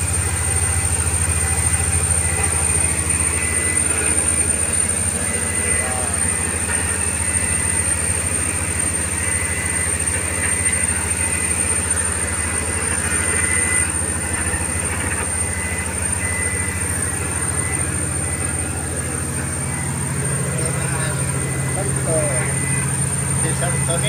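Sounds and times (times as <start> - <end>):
boat engine droning: 0.0 - 24.0
thin high whine: 0.0 - 24.0.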